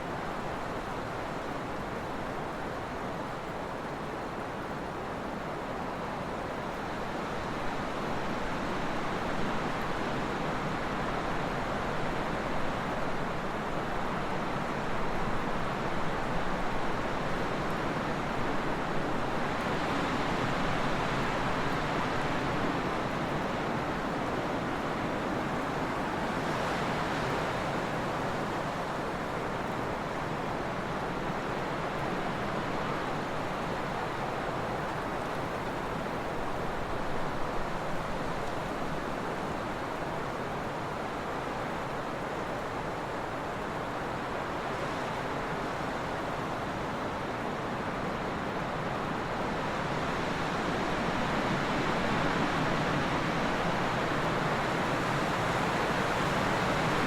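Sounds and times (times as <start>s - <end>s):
wind blowing in gusts: 6.9s - 57.0s.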